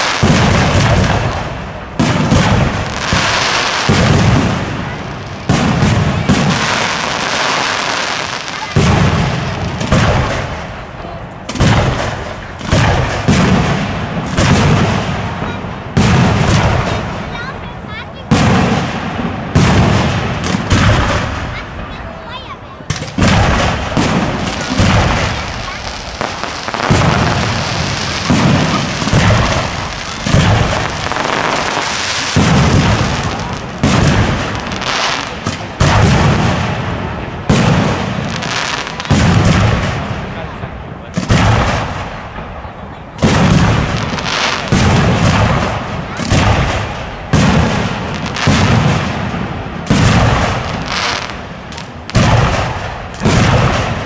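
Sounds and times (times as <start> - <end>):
firework bangs with rumbling echo: 0.0 - 54.0.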